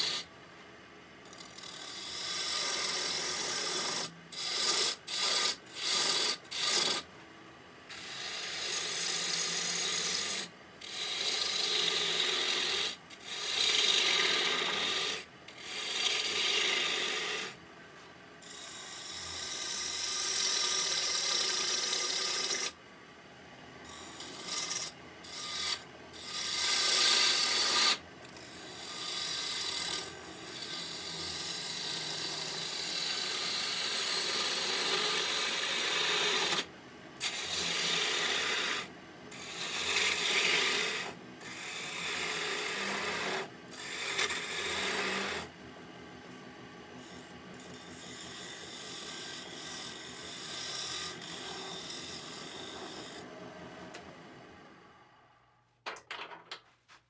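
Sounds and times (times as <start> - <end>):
lathe tool scraping wood: 0.0 - 0.2, 1.2 - 7.1, 7.9 - 17.6, 18.4 - 22.8, 23.9 - 45.6, 46.3 - 53.4.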